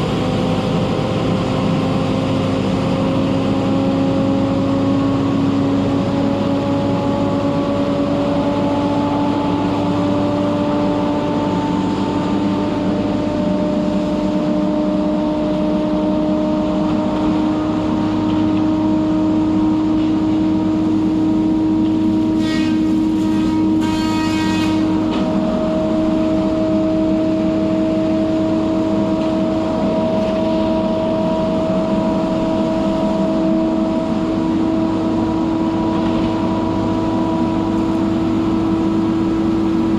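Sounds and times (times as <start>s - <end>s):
forestry machine engine and saw: 0.0s - 39.9s.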